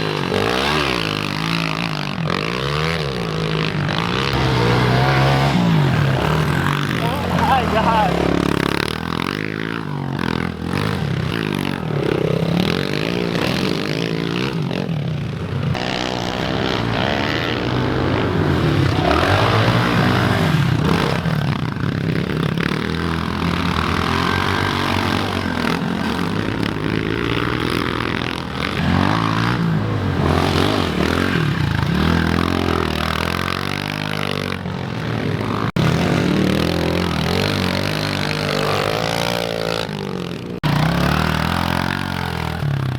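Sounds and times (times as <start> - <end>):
pit bike engines revving: 0.0 - 42.9.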